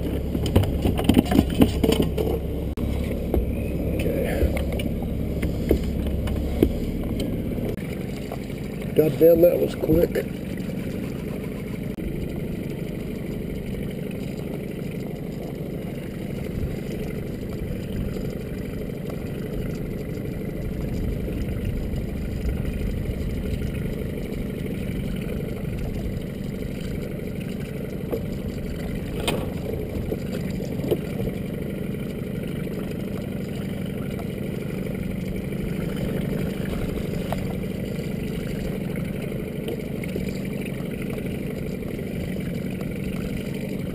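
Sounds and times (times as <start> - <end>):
boat engine idling: 0.0 - 43.9.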